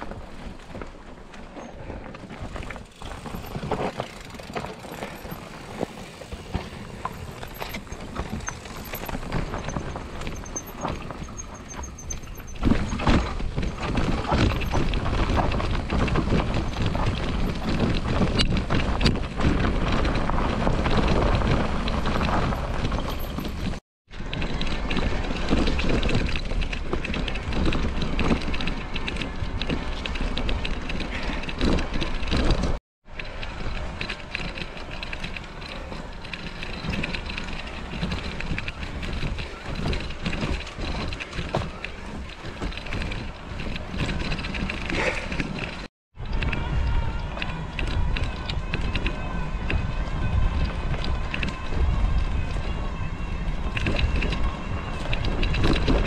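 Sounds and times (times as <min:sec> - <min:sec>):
tyres crunching on loose rock: 0:00.0 - 0:32.8, 0:33.6 - 0:45.9
bike rattling: 0:00.0 - 0:56.0.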